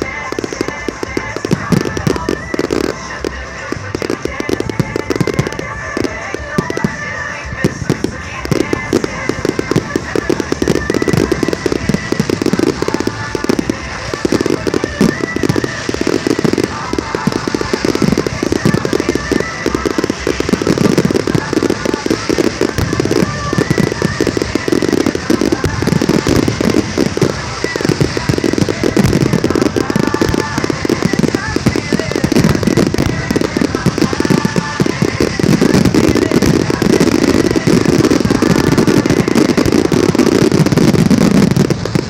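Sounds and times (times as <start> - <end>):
fireworks bangs and crackles: 0.0 - 42.0
music playing: 0.0 - 42.0.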